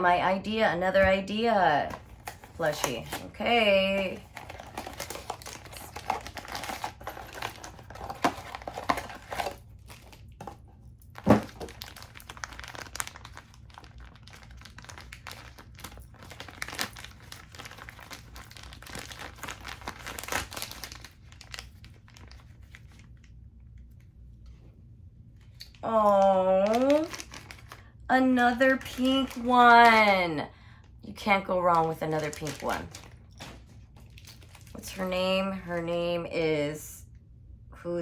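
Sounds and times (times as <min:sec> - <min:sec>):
plastic wrapper crinkling and tearing: 0:01.9 - 0:24.1, 0:25.4 - 0:30.1, 0:31.7 - 0:35.2.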